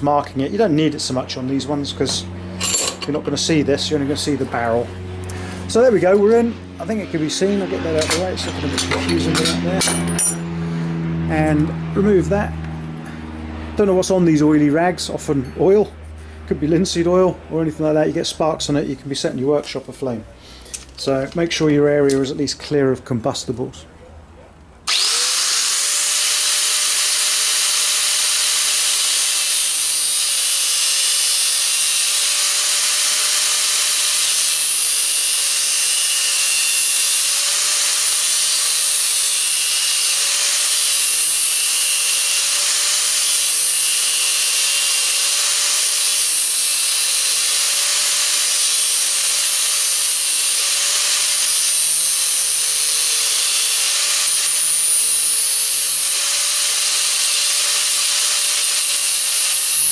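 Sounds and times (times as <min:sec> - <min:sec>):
angle grinder motor whine: 0:00.7 - 0:13.8, 0:24.9 - 0:59.9.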